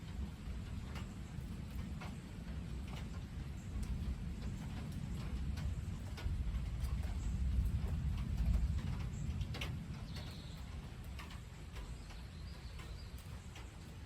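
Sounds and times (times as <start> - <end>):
low thunder rumbling: 0.0 - 13.4
rain dripping: 0.0 - 14.0.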